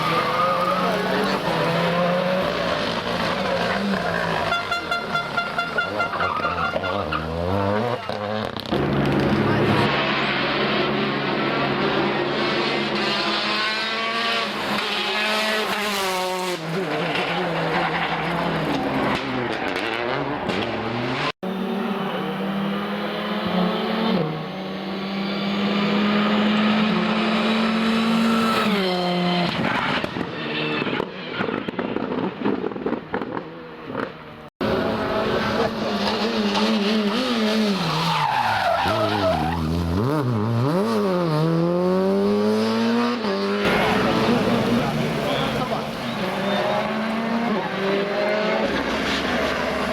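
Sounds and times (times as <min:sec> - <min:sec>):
rally car engines revving: 0:00.0 - 0:49.9.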